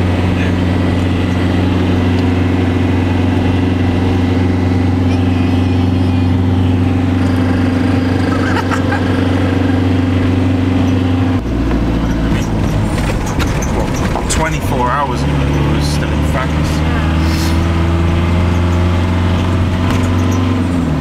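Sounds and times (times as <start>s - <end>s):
van engine running: 0.0s - 21.0s.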